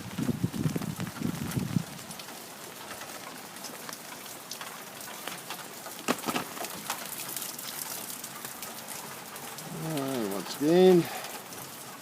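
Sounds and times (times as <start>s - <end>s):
rain falling: 0.0s - 12.0s
rainwater splashing: 0.0s - 12.0s
water dripping and pattering: 0.0s - 12.0s.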